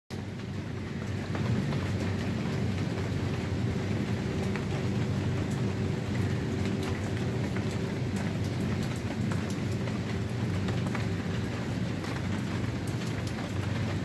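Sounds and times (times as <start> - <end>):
rain falling on water and paving: 0.1 - 14.0.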